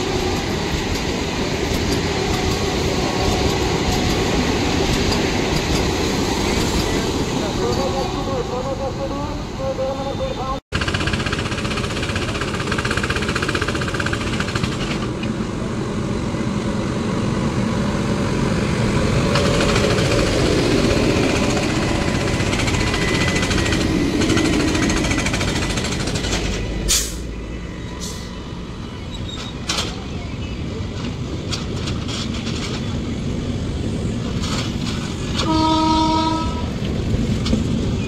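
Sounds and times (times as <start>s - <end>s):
train passing with wheel clatter: 0.0s - 38.0s.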